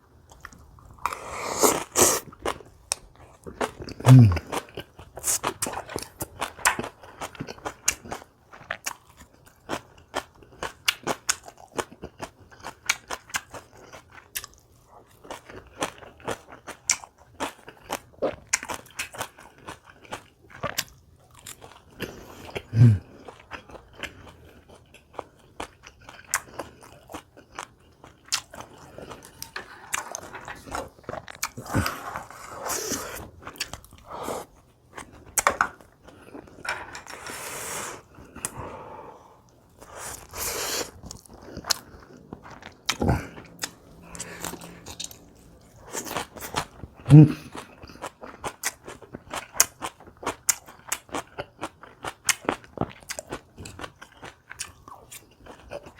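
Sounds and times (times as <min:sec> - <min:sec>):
person chewing crunchy food: 0:00.2 - 0:55.9.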